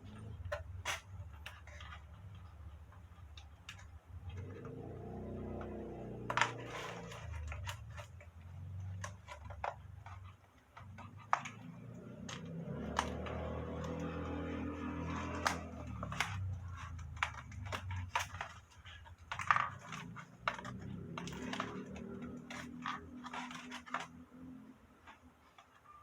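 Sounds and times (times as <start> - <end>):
fingers clicking and scratching: 0.0 - 26.0.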